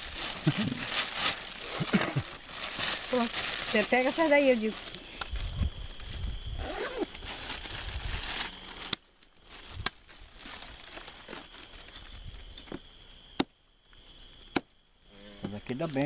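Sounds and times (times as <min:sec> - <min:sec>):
crinkling rustle: 0:00.0 - 0:12.9.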